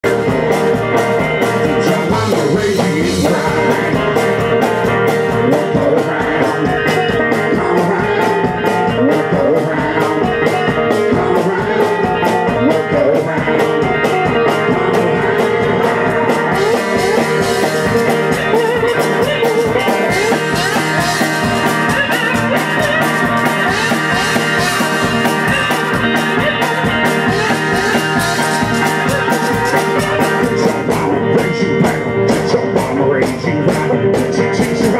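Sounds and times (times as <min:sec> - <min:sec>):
country blues band playing: 0:00.0 - 0:34.9.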